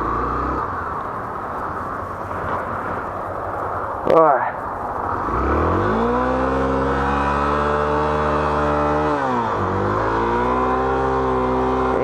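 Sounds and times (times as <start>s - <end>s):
motorcycle engine running: 0.0s - 3.4s, 4.9s - 12.0s.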